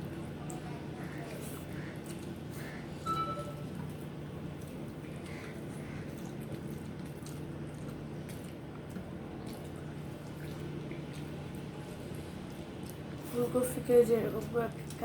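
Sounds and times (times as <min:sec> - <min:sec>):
wet eating sounds: 0:00.0 - 0:15.0.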